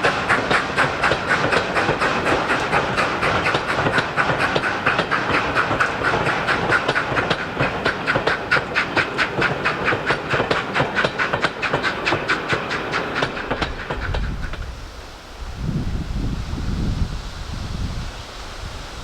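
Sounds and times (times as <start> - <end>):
steam train running: 0.0 - 19.0.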